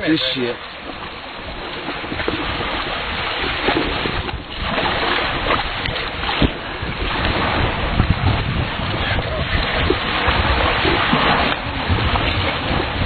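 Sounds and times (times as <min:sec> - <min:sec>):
surf washing: 0:00.0 - 0:13.0
wind buffeting microphone: 0:00.6 - 0:13.0.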